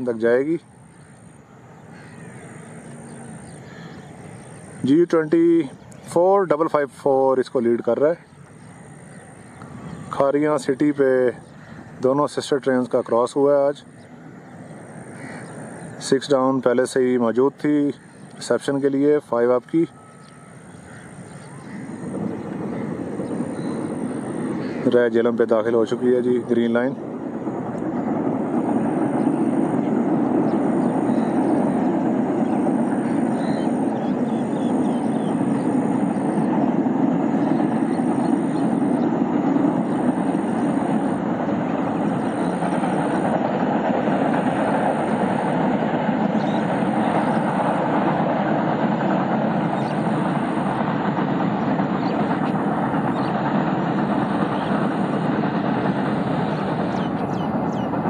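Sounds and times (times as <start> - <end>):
train rumbling over bridge: 0.0 - 58.0.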